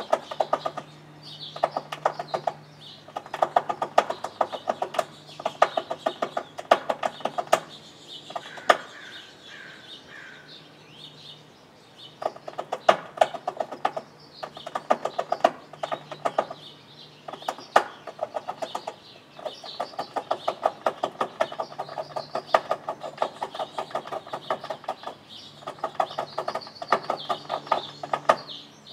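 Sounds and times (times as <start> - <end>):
squirrel gnawing on metal gutter: 0.0 - 9.1, 12.1 - 28.6
birds chirping: 0.0 - 28.9.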